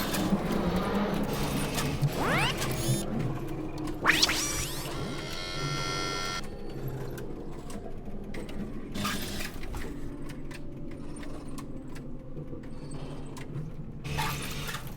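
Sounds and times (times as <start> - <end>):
tape machine mechanical hum: 0.0 - 7.0, 7.7 - 14.9.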